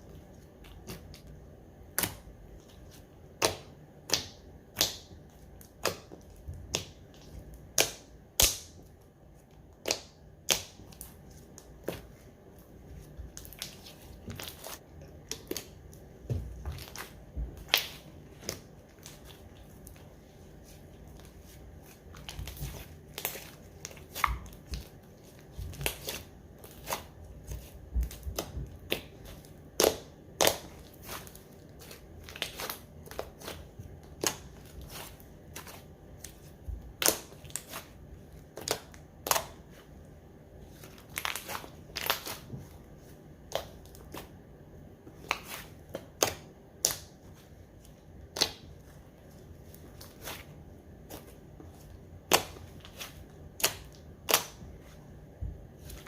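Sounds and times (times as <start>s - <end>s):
hands squishing slime: 0.0s - 56.0s.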